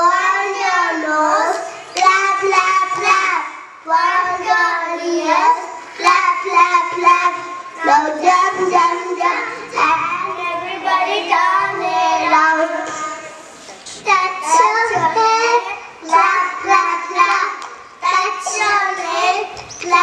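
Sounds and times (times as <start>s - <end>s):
children singing into microphones: 0.0s - 20.0s.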